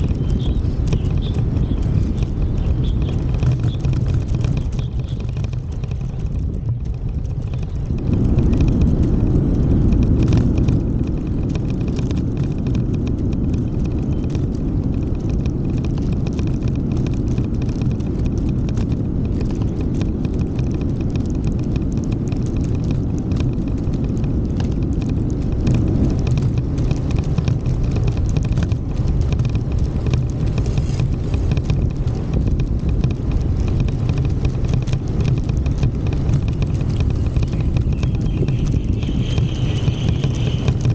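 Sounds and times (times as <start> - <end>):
small irregular clicks and scuffs: 0.0 - 40.9
steady low rumble: 0.0 - 40.9.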